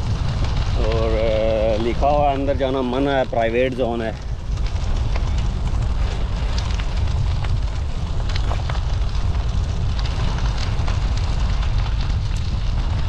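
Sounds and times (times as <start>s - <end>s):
bicycle tyres rolling on dirt track: 0.0s - 13.0s
wind buffeting microphone: 0.0s - 13.0s.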